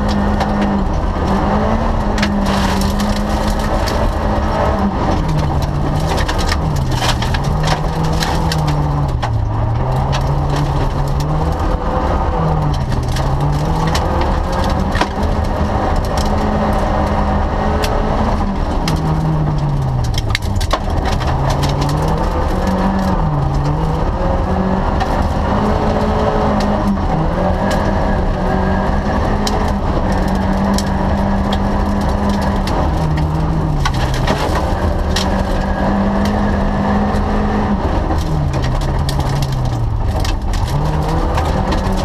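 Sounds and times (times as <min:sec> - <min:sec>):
gravel crackling against underbody: 0:00.0 - 0:42.0
rally car engine revving: 0:00.0 - 0:42.0.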